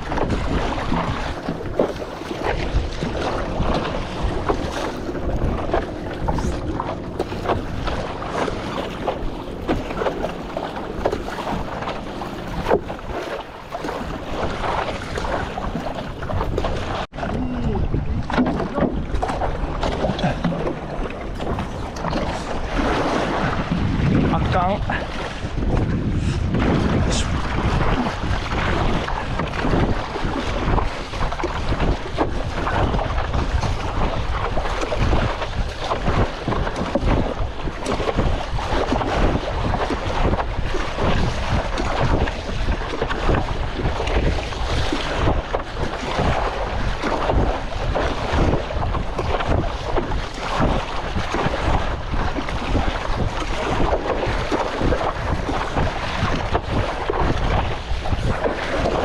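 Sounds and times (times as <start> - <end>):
choppy sea water: 0.0 - 59.0
wind buffeting microphone: 0.0 - 59.0.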